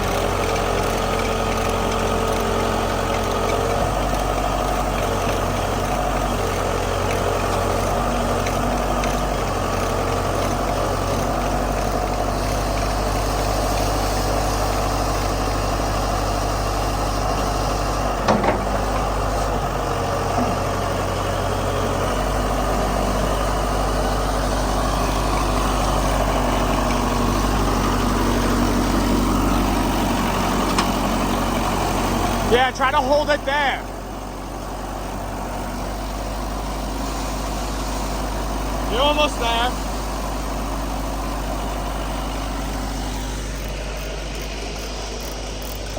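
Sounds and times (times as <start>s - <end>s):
backhoe engine running: 0.0s - 45.9s.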